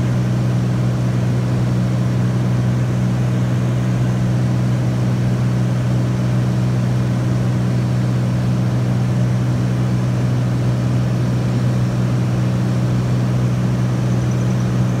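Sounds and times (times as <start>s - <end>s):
propeller plane cabin drone: 0.0s - 15.0s.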